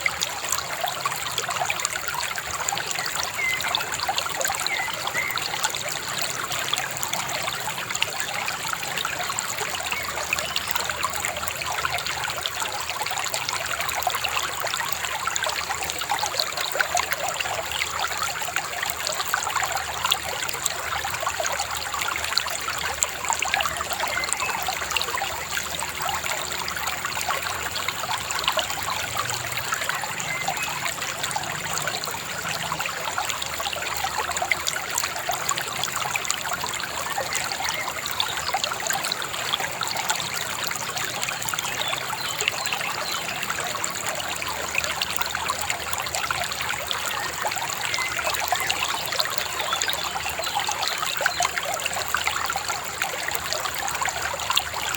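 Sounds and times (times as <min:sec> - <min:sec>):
river babbling over stones: 0:00.0 - 0:54.9.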